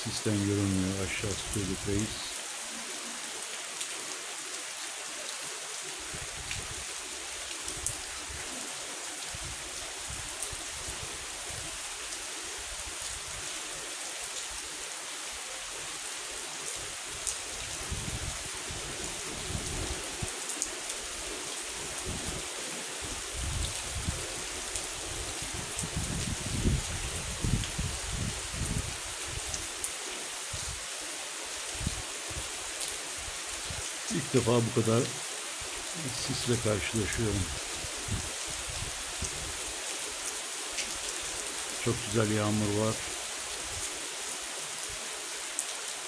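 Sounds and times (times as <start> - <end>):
steady rain hiss: 0.0 - 46.0.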